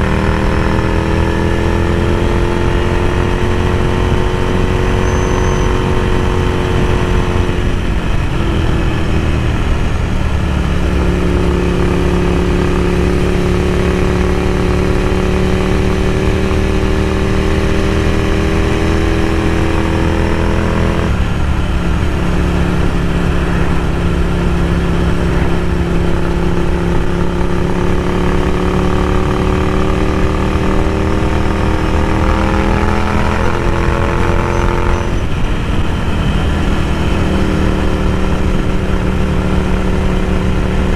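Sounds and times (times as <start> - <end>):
motorcycle engine under way: 0.0 - 40.9.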